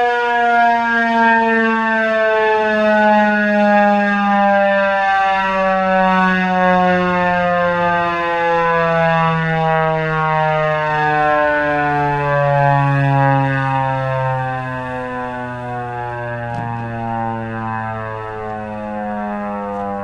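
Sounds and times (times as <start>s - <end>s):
siren winding down: 0.0s - 20.0s.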